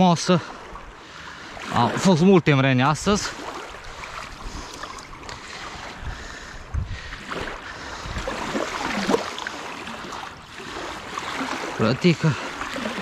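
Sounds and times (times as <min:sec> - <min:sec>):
river water sloshing and splashing: 0:00.0 - 0:13.0.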